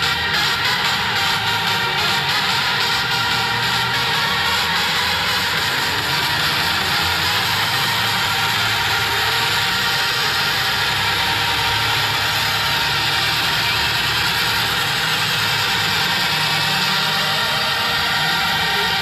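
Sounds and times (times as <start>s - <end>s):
race car engines running: 0.0s - 19.0s.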